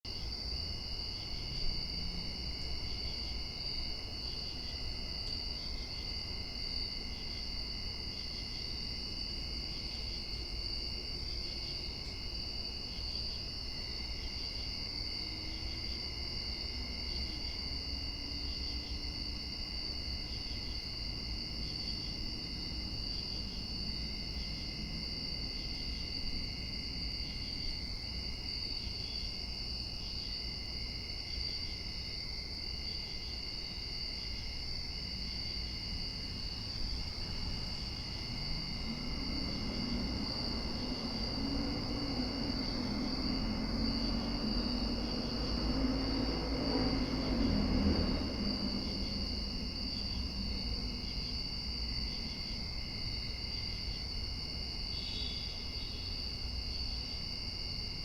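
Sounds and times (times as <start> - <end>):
crickets and insects trilling: 0.1 - 58.0.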